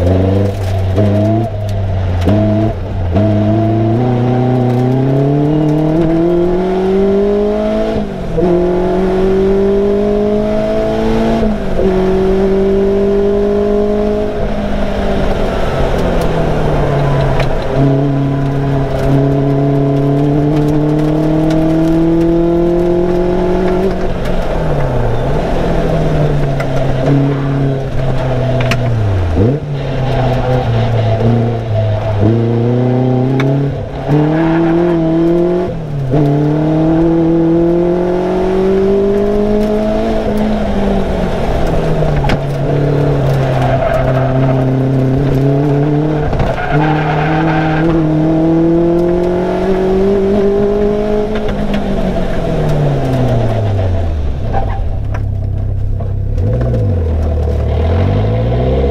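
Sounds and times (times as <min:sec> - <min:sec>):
car engine accelerating: 0:00.0 - 0:58.9.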